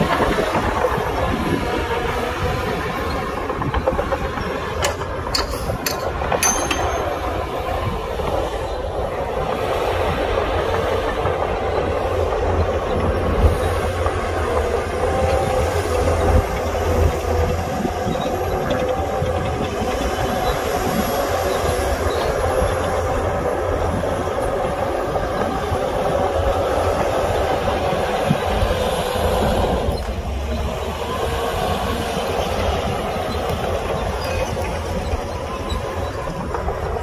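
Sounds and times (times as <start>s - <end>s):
diesel machinery engine rumble: 0.0s - 37.0s.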